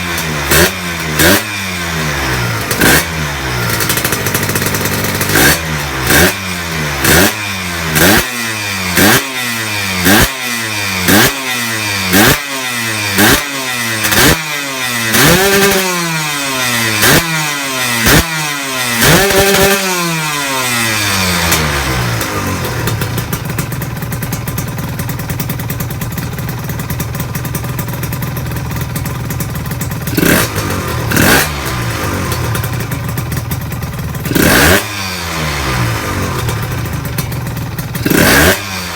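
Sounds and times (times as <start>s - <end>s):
two-stroke engine revving and idling: 0.0s - 38.9s.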